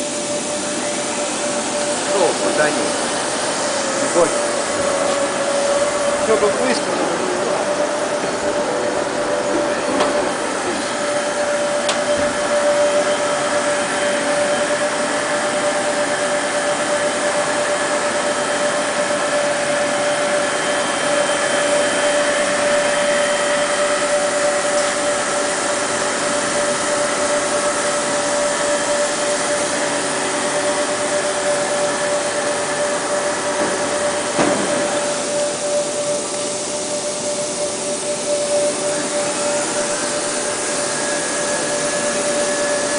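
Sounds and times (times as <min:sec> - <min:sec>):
boring mill mechanical whine: 0:00.0 - 0:42.9.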